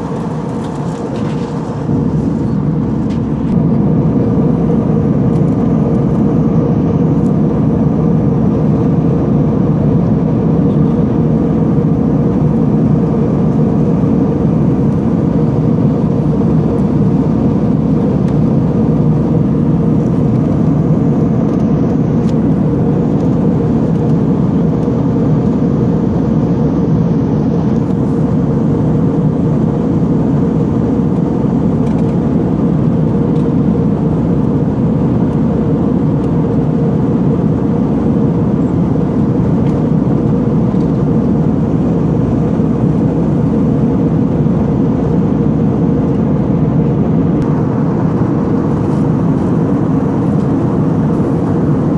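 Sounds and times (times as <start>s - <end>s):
airplane cabin drone: 0.0s - 51.9s.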